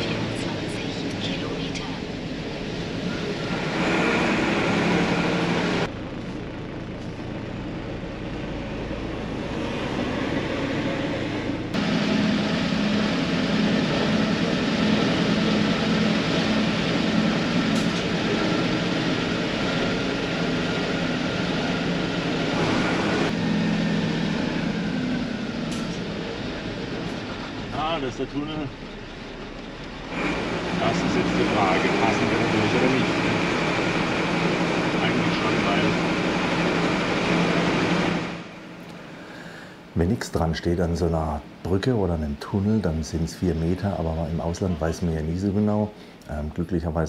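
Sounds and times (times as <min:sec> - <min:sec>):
diesel truck engine running: 0:00.0 - 0:47.0
road noise: 0:00.0 - 0:47.0.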